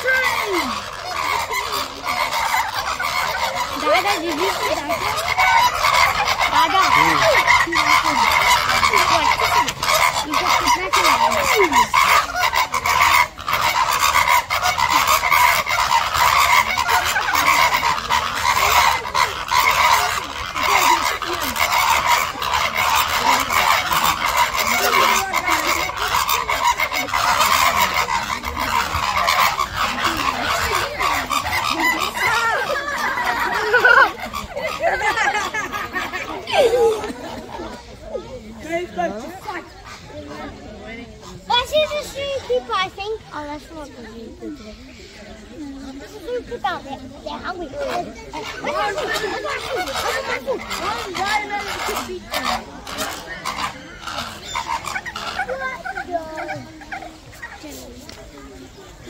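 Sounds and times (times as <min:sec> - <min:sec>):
flamingos honking: 0:00.0 - 0:59.0.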